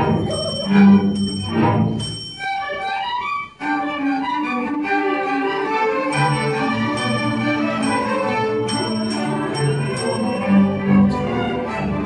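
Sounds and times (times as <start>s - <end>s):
string orchestra playing: 0.0s - 12.0s.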